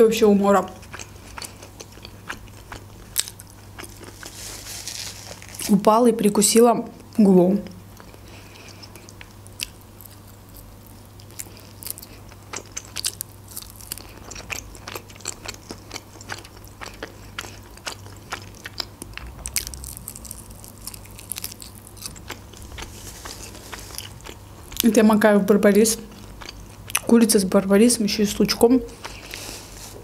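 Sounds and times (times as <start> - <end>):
chewing and crunching: 0.5 - 5.8, 7.6 - 27.2, 28.9 - 30.0.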